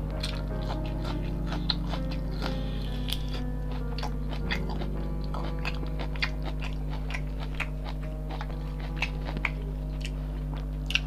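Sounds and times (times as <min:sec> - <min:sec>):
person chewing food: 0:00.0 - 0:11.0
steady low hum: 0:00.0 - 0:11.0.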